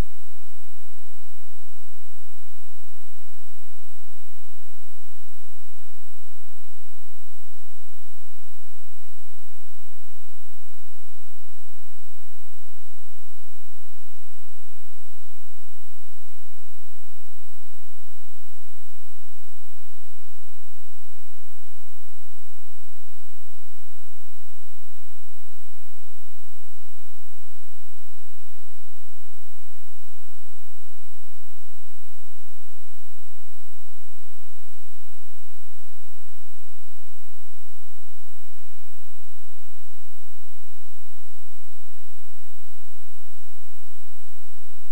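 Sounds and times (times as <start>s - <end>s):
electrical hum with whining tones: 0.0s - 44.9s
faint hiss: 0.0s - 44.9s.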